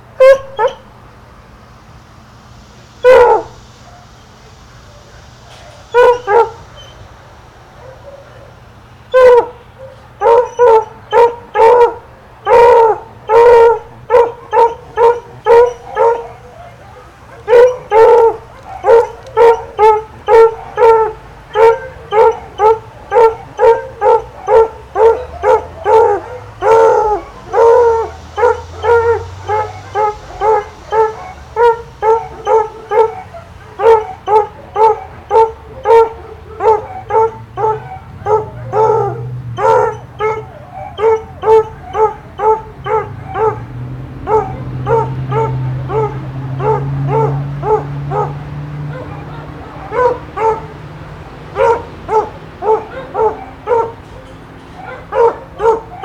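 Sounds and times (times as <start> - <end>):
dog barking rhythmically: 0.2 - 0.9, 3.0 - 4.1, 7.8 - 54.1, 54.8 - 56.0.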